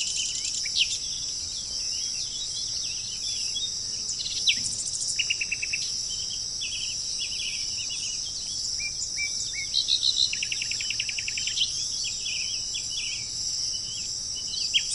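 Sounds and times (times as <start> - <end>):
bird trills: 0.0 - 14.9
small birds chirping: 0.0 - 14.9.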